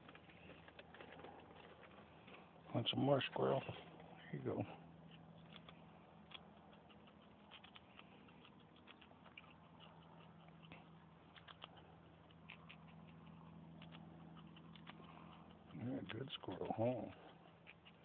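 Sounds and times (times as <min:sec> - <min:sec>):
squirrel clicks and scratches: 0:00.0 - 0:18.0
steady low hum: 0:00.0 - 0:18.0.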